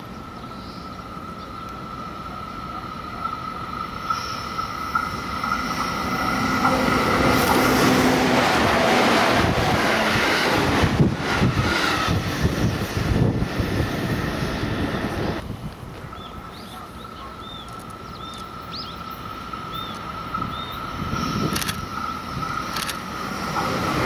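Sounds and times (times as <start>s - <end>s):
train rumble passing: 0.0s - 24.0s.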